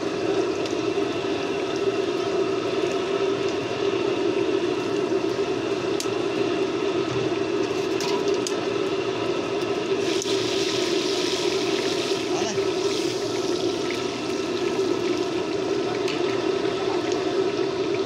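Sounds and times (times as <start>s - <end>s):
food sizzling in hot oil: 0.0s - 18.0s
low mechanical hum: 0.0s - 18.0s.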